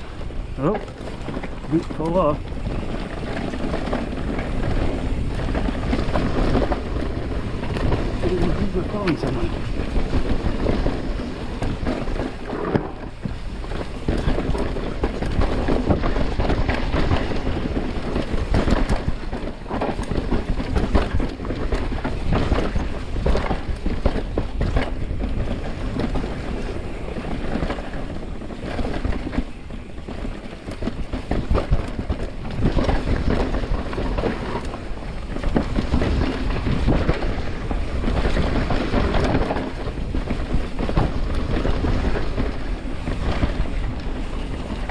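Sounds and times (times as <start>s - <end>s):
bike rattling over bumps: 0.0s - 44.9s
bike tyres rumbling on dirt trail: 0.0s - 44.9s
wind buffeting microphone: 0.0s - 44.9s.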